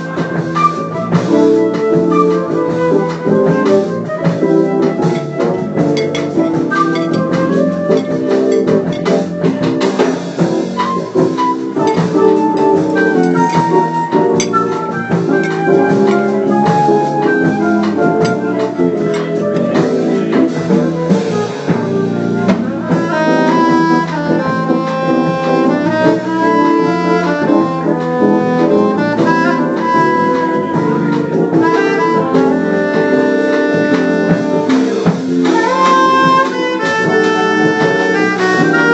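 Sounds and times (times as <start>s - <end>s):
drum kit and band: 0.0s - 38.9s
saxophone melody: 0.0s - 38.9s.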